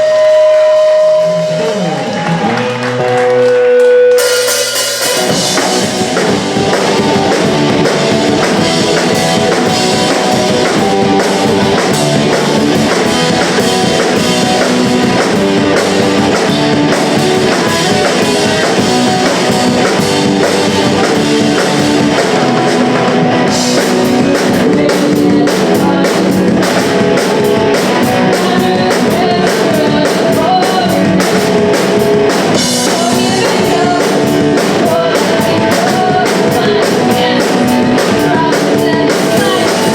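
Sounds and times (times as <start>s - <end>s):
drum kit: 0.0s - 39.9s
electric guitars: 0.0s - 39.9s
punk rock band playing: 0.0s - 39.9s.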